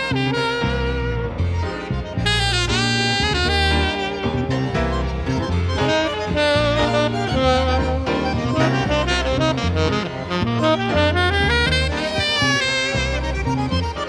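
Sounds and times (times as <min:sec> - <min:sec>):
electric bass notes: 0:00.0 - 0:14.0
small band playing: 0:00.0 - 0:14.0
tenor saxophone melody: 0:00.0 - 0:14.0.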